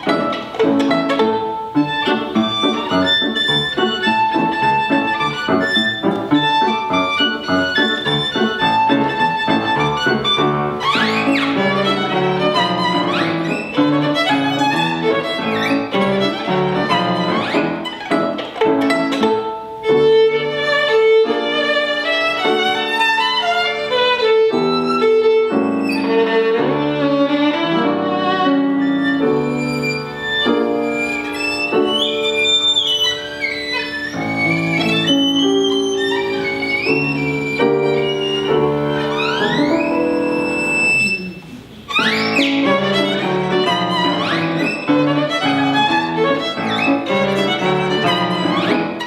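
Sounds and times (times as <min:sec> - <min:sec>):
piano accompaniment: 0:00.0 - 0:49.0
solo violin: 0:00.0 - 0:49.0.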